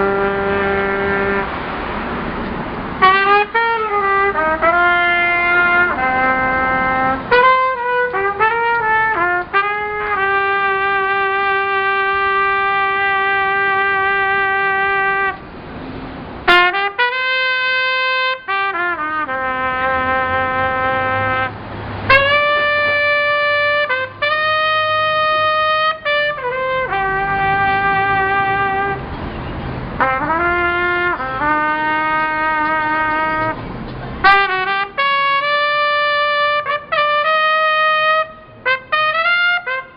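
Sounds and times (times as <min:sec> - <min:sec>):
solo brass horn melody: 0:00.0 - 0:01.8, 0:03.0 - 0:15.4, 0:16.4 - 0:29.1, 0:30.0 - 0:39.9.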